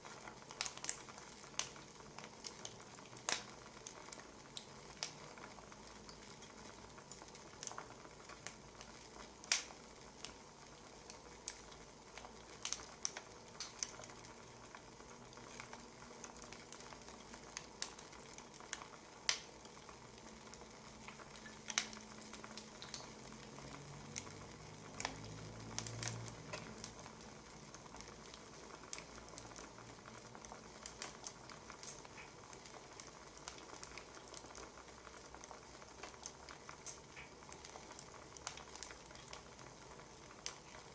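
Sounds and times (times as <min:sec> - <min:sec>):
firewood crackling: 0:00.0 - 0:40.9
soft hiss: 0:00.0 - 0:40.9.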